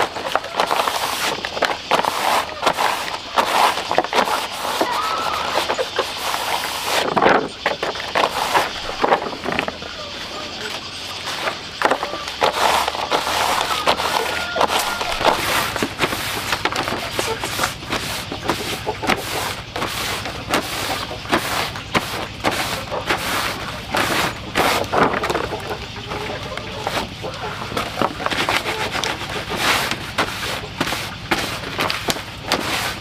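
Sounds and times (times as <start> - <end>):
cloth rubbing leaves: 0.0 - 7.2, 7.8 - 9.8, 11.2 - 25.4, 26.3 - 33.0
leaves rustling on bamboo tray: 0.0 - 33.0.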